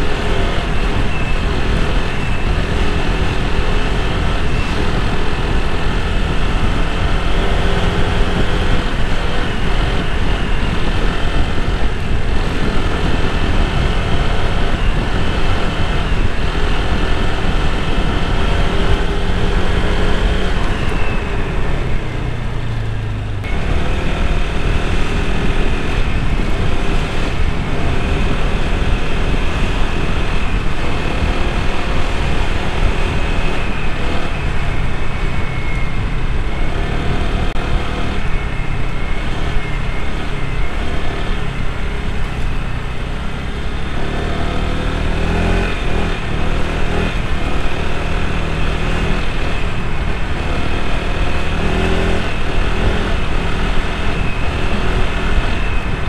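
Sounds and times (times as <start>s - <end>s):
scooter engine drone: 0.0s - 56.0s
wind rushing over microphone: 0.0s - 56.0s.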